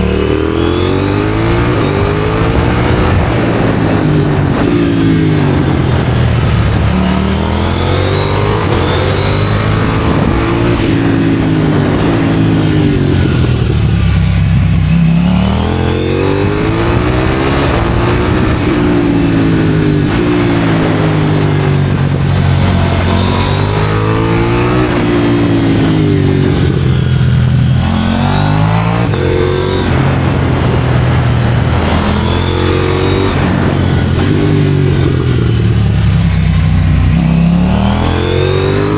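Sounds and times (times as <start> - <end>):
motorcycle engine revving: 0.0 - 38.9
wind noise: 0.0 - 38.9.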